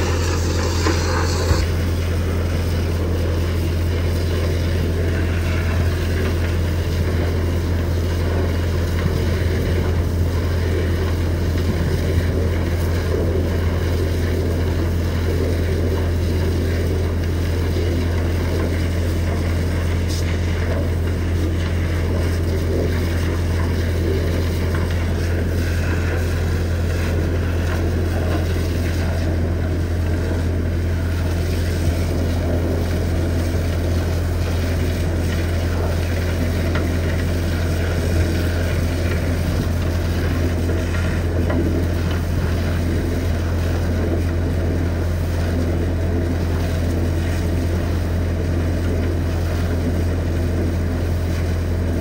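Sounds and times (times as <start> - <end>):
engine droning: 0.0 - 52.0
water jet hissing and splashing: 0.0 - 52.0.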